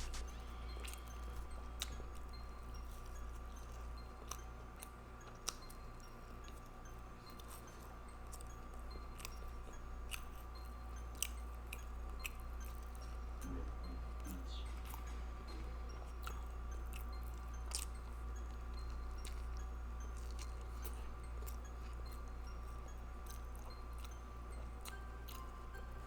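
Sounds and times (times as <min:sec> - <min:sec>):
person chewing: 0:00.0 - 0:26.0
steady low hum: 0:00.0 - 0:26.0.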